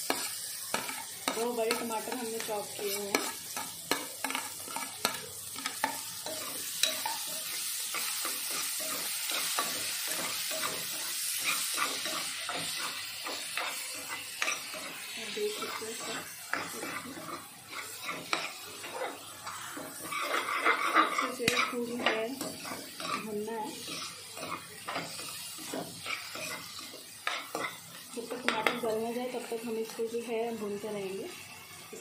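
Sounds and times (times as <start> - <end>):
spatula scraping pan: 0.0 - 30.2
tomatoes sizzling in oil: 0.0 - 32.0.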